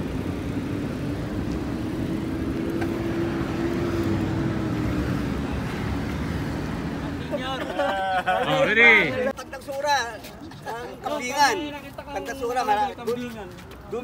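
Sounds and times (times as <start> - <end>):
bicycle road noise: 0.0 - 14.0.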